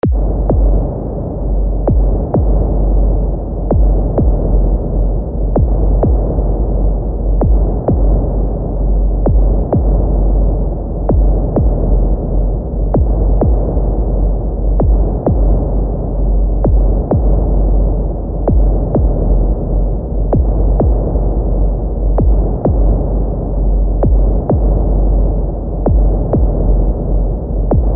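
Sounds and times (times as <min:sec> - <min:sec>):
heartbeat: 0:00.0 - 0:27.9
low rumbling drone: 0:00.0 - 0:27.9.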